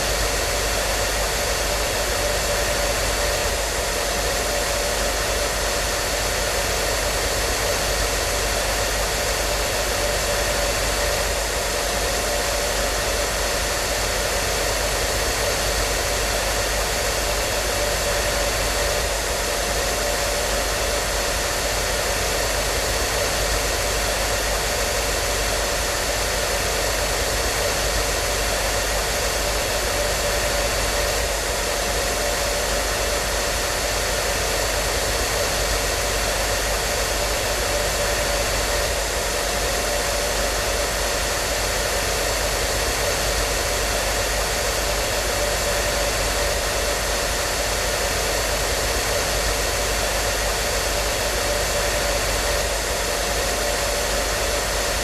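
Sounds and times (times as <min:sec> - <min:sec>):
hair dryer blowing: 0:00.0 - 0:55.0.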